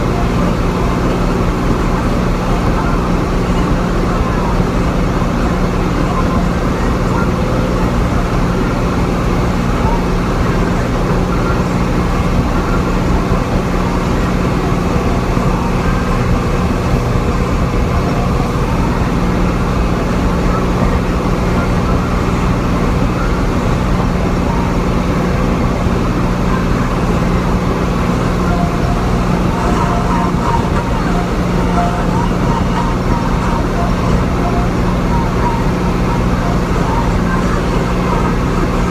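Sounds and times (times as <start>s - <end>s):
tractor engine drone from cab: 0.0s - 38.9s.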